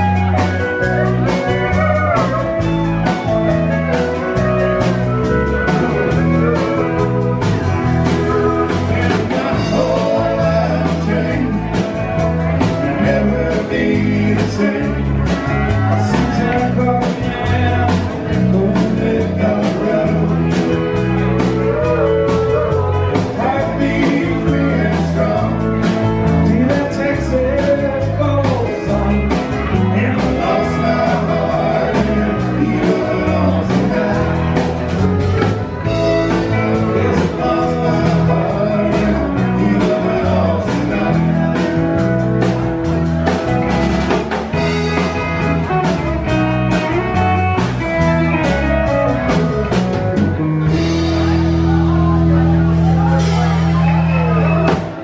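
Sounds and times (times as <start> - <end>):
drum kit steady beat: 0.0 - 52.0
electric bass: 0.0 - 55.0
electric guitar: 0.0 - 55.0
pedal steel guitar: 0.0 - 55.0.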